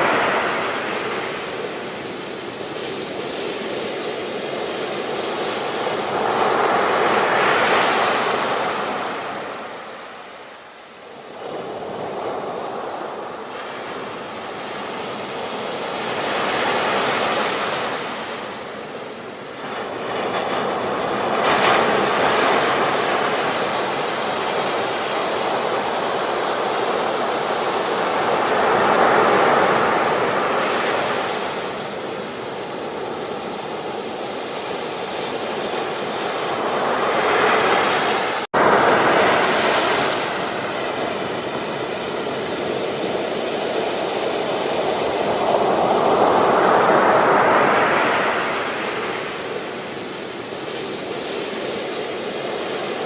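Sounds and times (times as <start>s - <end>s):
sea waves breaking on beach: 0.0s - 53.0s.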